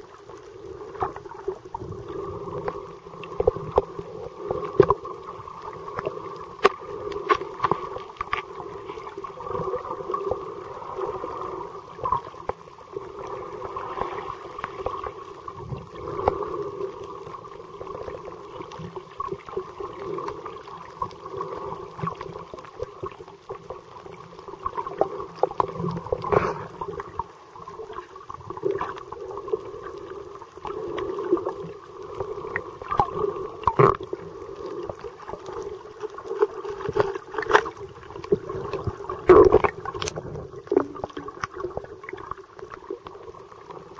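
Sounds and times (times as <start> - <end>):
underwater droning hum: 0.0 - 43.9.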